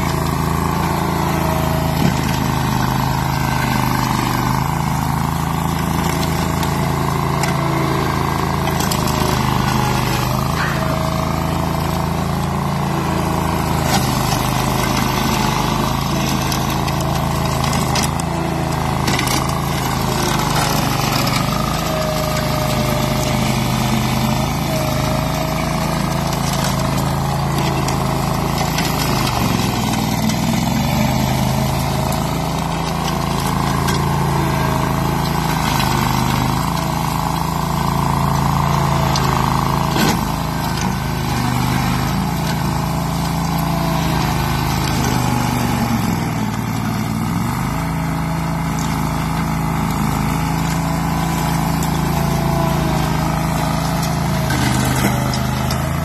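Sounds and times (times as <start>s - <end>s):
blade mulching shrubs: 0.0s - 56.0s
mower engine running under load: 0.0s - 56.0s.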